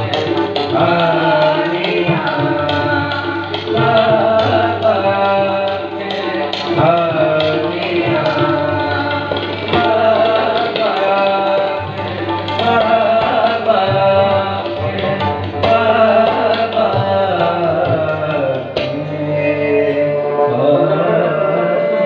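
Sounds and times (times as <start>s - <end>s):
harmoniums: 0.0s - 22.0s
person singing: 0.0s - 22.0s
tabla playing: 0.0s - 22.0s.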